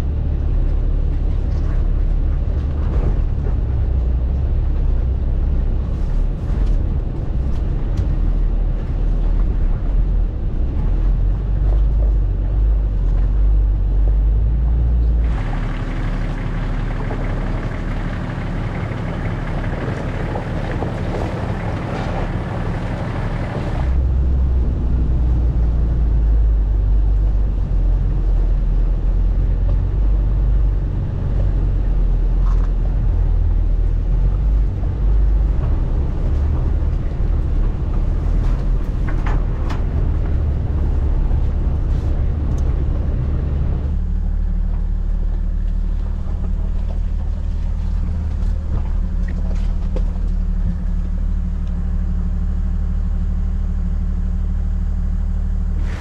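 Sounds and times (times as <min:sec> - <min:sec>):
muffled engine drone: 0:00.0 - 0:56.0
vehicle rumbling over gravel: 0:00.0 - 0:56.0.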